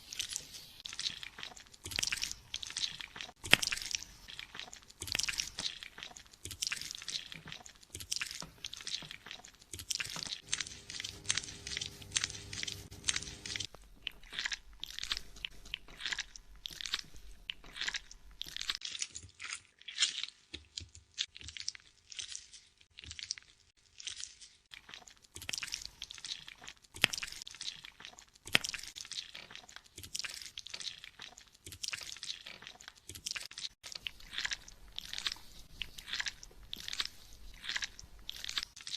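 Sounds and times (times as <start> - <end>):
fingers scrubbing shampooed hair: 0.0 - 18.8, 24.9 - 38.9.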